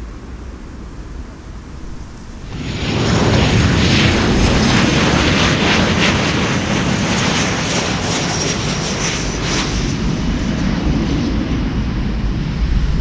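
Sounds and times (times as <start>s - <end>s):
jet engines reverse thrust roar: 0.0s - 13.0s
thin high whine: 0.0s - 13.0s.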